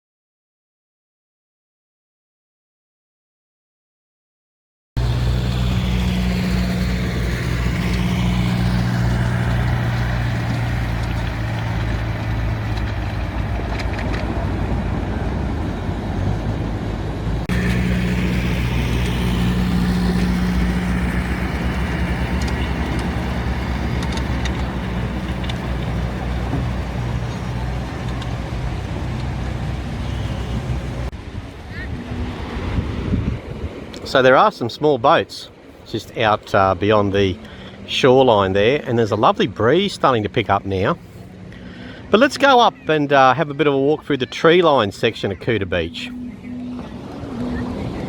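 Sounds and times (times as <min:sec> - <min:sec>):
engine humming: 0:05.0 - 0:34.2, 0:35.5 - 0:48.0.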